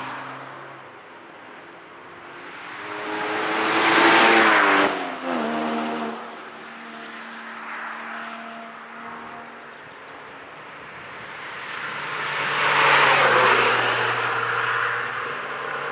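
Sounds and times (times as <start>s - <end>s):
sports car passing at speed: 0.0s - 15.9s.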